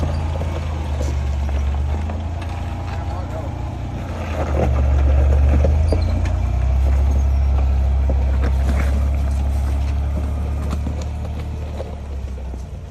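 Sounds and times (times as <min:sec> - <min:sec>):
vehicle engine deep drone: 0:00.0 - 0:12.9.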